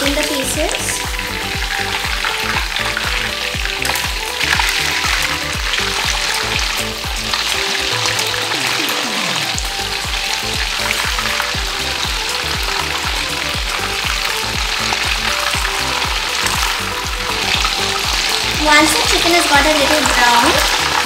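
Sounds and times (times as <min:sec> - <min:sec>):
deep-frying sizzle and crackling: 0:00.0 - 0:21.0.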